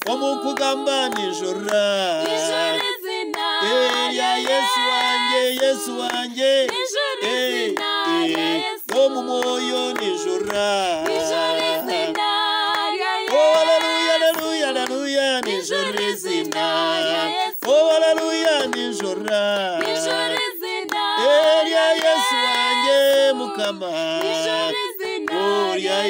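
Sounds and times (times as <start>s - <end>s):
hand claps: 0.0s - 26.0s
people singing in harmony: 0.0s - 26.0s.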